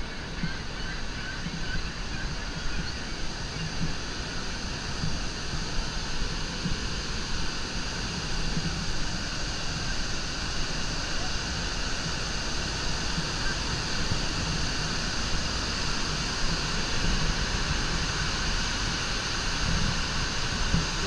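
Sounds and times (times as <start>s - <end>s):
waterfall rushing over rocks: 1.9s - 21.0s.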